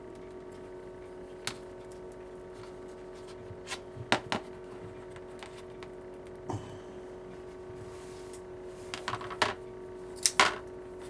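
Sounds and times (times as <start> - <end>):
heat gun humming: 0.0 - 9.0.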